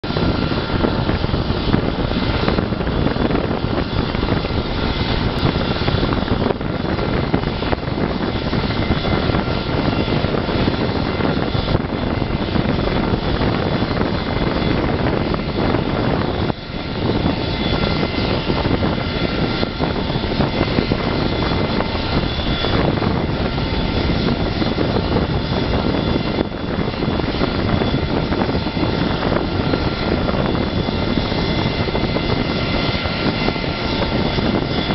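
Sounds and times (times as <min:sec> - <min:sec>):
jet engines idling: 0:00.0 - 0:34.9.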